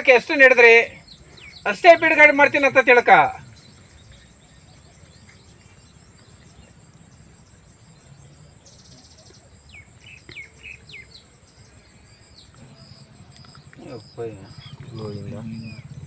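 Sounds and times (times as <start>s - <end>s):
bird trilling and chirping: 0.0s - 16.0s.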